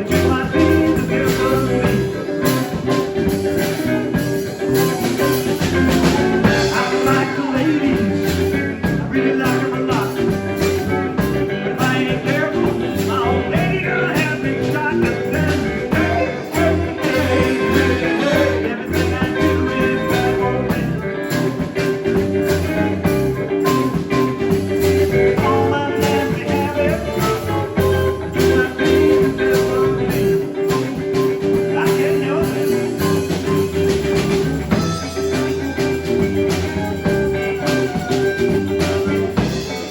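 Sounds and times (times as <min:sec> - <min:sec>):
electric guitar: 0:00.0 - 0:39.9
live band playing blues-rock: 0:00.0 - 0:39.9
steady drum beat: 0:00.0 - 0:39.9.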